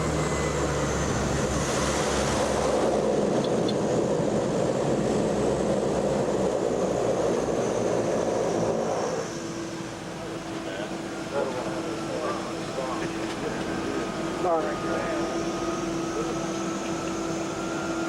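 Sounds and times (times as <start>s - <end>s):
small plane engine in cabin: 0.0s - 18.0s.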